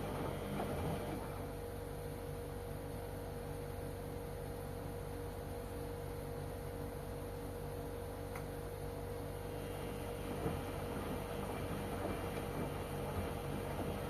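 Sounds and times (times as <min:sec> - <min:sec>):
washing machine churning: 0:00.0 - 0:14.0
washing machine motor hum: 0:00.0 - 0:14.0.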